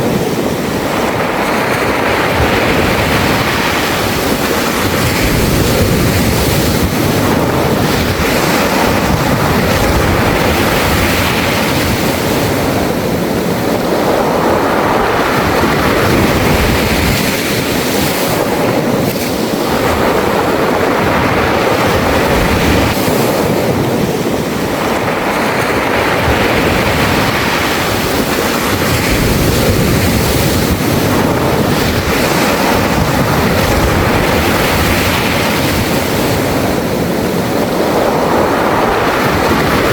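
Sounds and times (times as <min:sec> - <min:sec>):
sea waves washing up a beach: 0:00.0 - 0:39.9.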